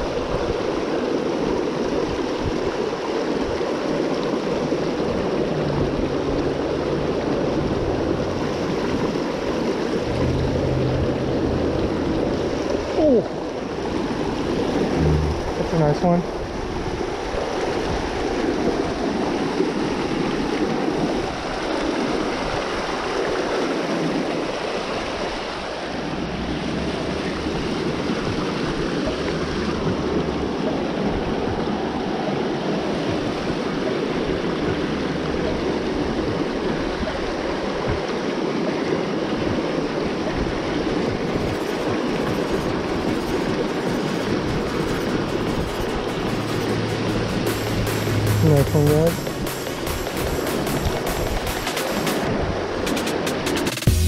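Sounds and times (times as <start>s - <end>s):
creek water rushing over rocks: 0.0s - 53.9s.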